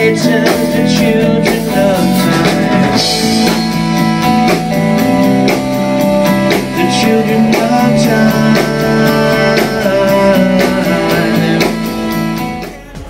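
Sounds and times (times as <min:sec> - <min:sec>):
drum kit beat: 0:00.0 - 0:13.0
electric guitar chords: 0:00.0 - 0:13.0.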